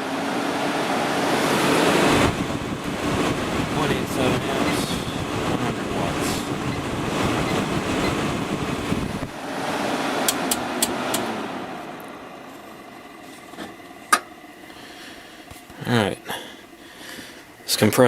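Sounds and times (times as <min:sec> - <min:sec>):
air conditioner fan running: 0:00.0 - 0:18.0.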